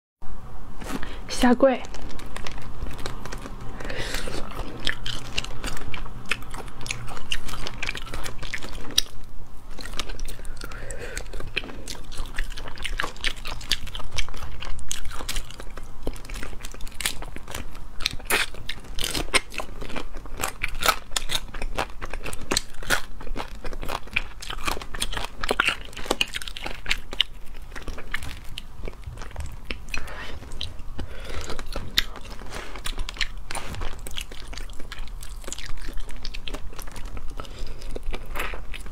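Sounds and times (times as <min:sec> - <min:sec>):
faint low hum: 0:00.2 - 0:38.9
chewing crunchy shellfish: 0:01.8 - 0:38.9.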